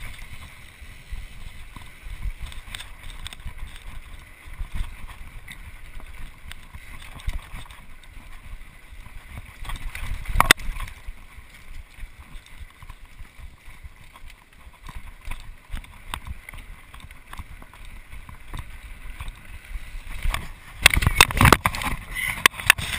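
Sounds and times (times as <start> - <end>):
bike rattling over bumps: 0.0 - 22.9.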